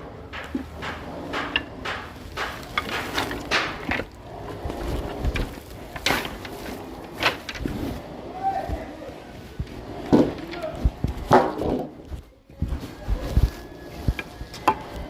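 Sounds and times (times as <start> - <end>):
hard objects knocking and clattering: 0.0 - 8.0, 8.6 - 15.0.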